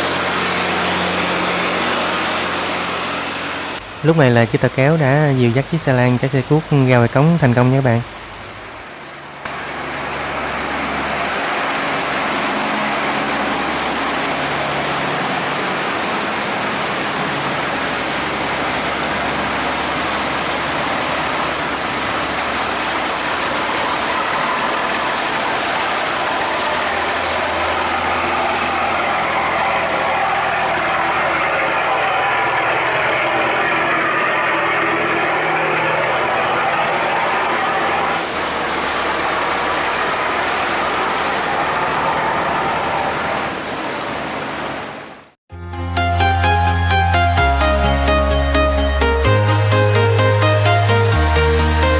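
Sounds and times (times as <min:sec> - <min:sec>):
broad rushing noise: 0:00.0 - 0:45.4
boat engine humming: 0:00.0 - 0:51.9.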